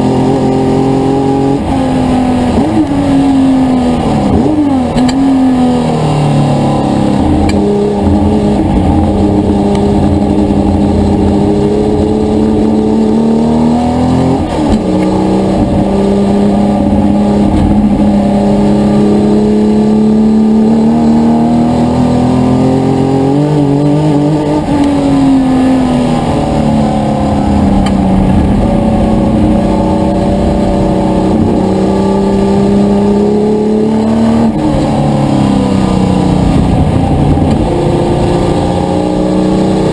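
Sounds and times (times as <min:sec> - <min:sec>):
racing car engine at high revs: 0:00.0 - 0:39.9.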